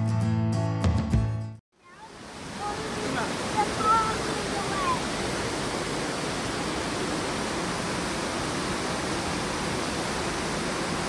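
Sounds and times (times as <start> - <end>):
waterfall rushing: 1.8 - 11.0.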